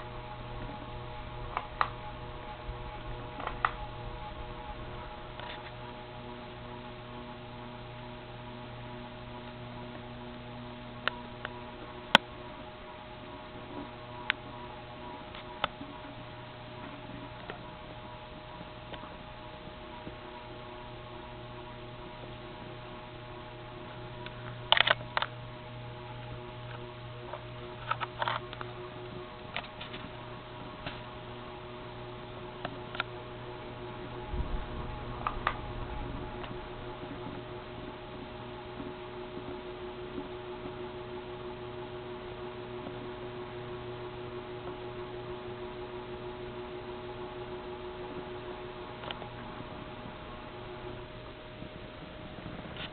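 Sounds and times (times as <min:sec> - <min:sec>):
ceiling fan motor humming: 0:00.0 - 0:52.9.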